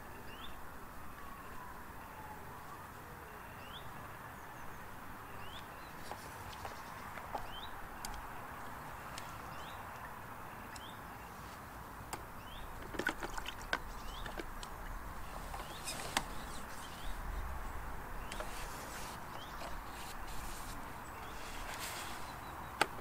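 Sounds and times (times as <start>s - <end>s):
bird chirping: 0.0s - 0.6s, 3.3s - 23.0s
outdoor background noise: 0.0s - 23.0s.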